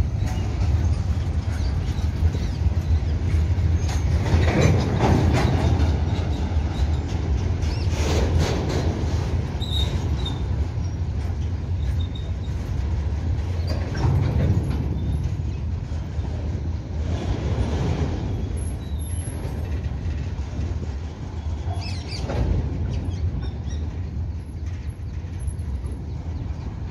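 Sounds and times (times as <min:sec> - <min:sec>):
freight wagons clanking: 0:00.0 - 0:26.9
train wheels rumbling on rail: 0:00.0 - 0:26.9.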